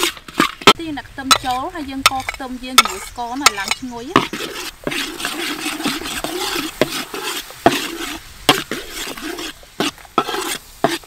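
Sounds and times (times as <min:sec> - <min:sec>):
garlic sizzling in wok: 0:00.0 - 0:11.0
metal spatula scraping wok: 0:00.0 - 0:11.0.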